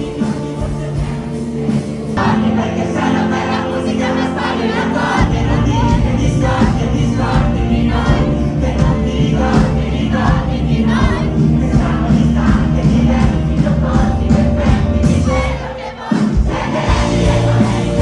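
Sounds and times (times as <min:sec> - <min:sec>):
crowd singing along: 0:00.0 - 0:18.0
live pop concert music: 0:00.0 - 0:18.0.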